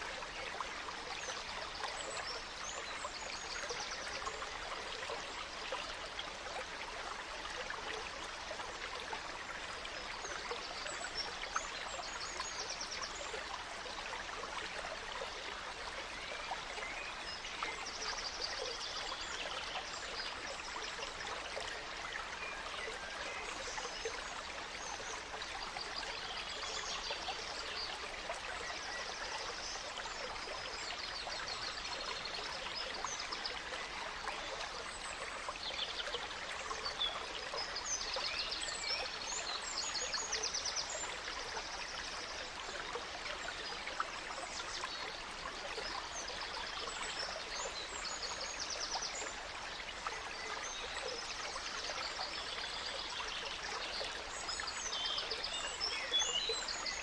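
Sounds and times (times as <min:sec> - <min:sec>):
gentle stream running: 0:00.0 - 0:57.0.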